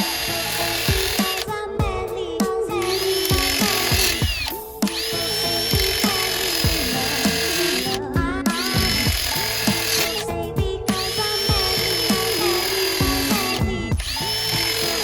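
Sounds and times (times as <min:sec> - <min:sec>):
electronic music with kick drums: 0:00.0 - 0:02.6, 0:03.3 - 0:15.0.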